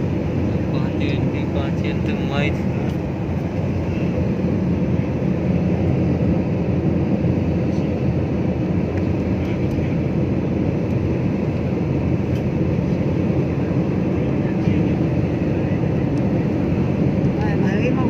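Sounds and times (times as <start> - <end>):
jet airliner cabin rumble: 0.0 - 18.0.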